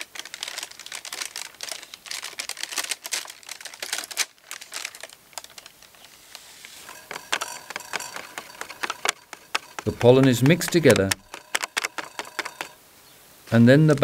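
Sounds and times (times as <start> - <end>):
paper bags crinkling: 0.0 - 12.8.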